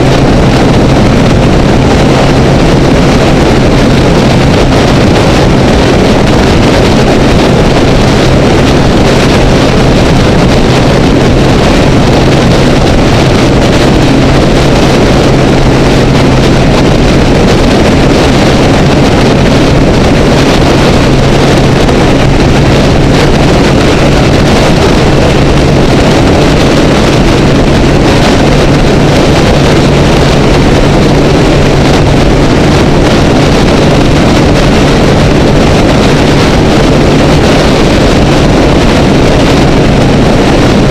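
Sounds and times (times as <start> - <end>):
heavy wind rush: 0.0 - 40.9
motorcycle engine droning: 0.0 - 40.9.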